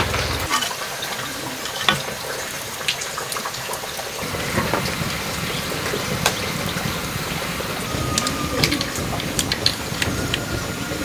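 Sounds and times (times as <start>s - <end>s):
water pouring: 0.0s - 11.0s.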